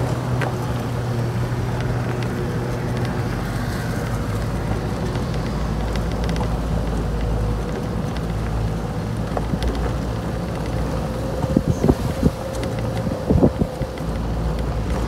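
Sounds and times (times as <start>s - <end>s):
vehicle engine running: 0.0s - 15.0s
wind noise on microphone: 0.0s - 15.0s.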